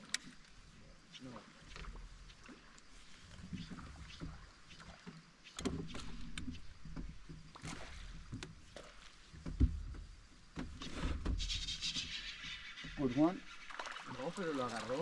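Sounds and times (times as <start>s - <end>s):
knocks and clicks on boat: 0.0s - 0.5s, 1.2s - 15.0s.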